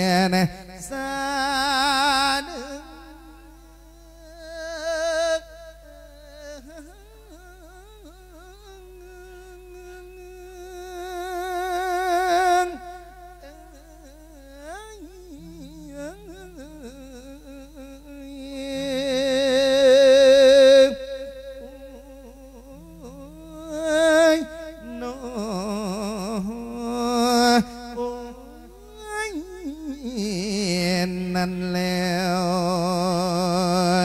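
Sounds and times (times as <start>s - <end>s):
person chanting through a microphone: 0.0s - 34.0s.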